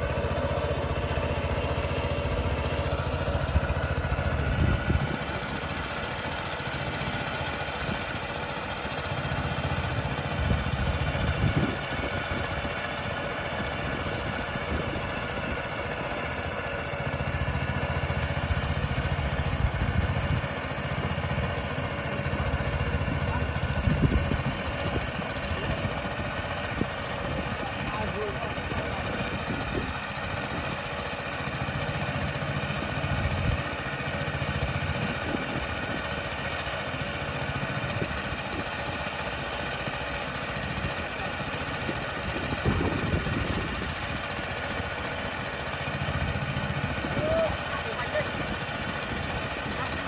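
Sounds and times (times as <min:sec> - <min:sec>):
water pump engine running: 0:00.0 - 0:50.0.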